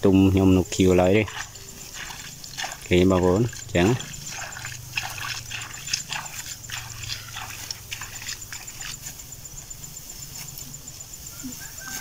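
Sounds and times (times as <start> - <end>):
low steady hum: 0.0 - 11.1
dry stalks rustling and crackling: 0.8 - 12.0.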